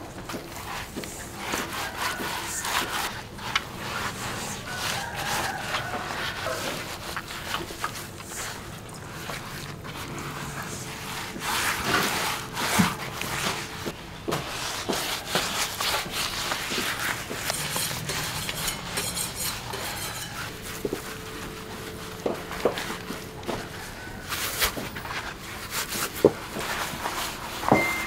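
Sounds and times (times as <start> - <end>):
bristle brush scrubbing: 0.3 - 28.0.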